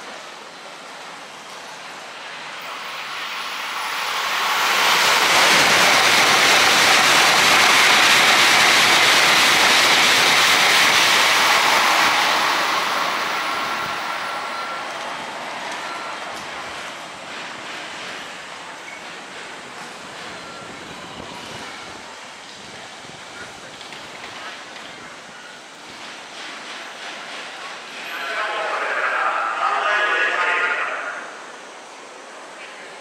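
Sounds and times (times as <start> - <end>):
bullet train rushing roar: 0.0 - 33.0.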